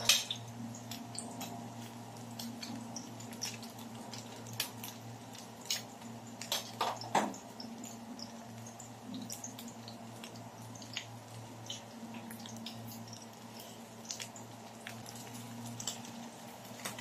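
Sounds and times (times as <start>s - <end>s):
fritters frying in oil: 0.0s - 17.0s
hot oil crackling and popping: 0.0s - 17.0s.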